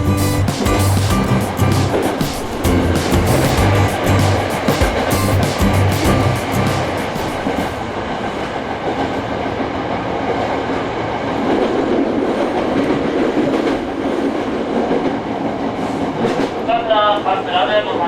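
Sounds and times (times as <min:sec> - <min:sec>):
electric train rumbling on track: 0:00.0 - 0:18.0.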